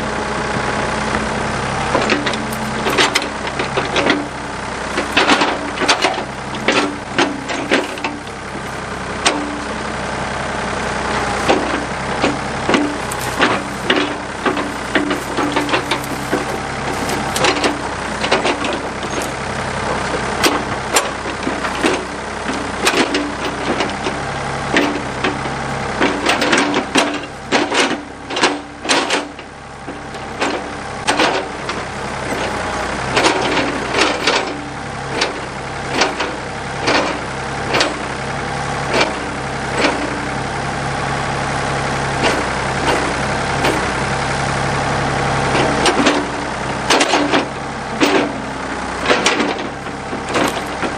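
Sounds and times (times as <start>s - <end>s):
backhoe diesel engine running: 0.0s - 50.9s
digging knocks and clanks: 1.6s - 50.9s.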